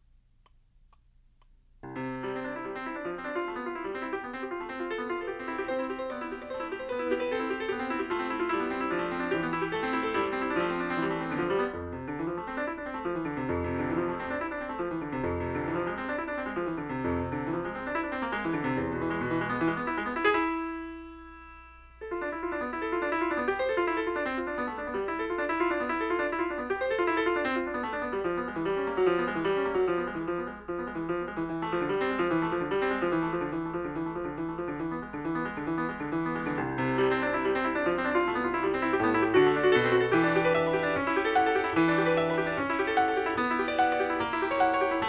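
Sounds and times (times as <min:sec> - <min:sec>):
piano music: 0:01.8 - 0:45.0.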